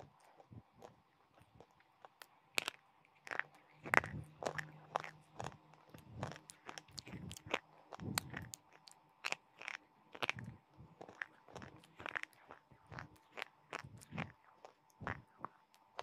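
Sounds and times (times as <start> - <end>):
crunching chewing of brittle stick: 0.0 - 16.0.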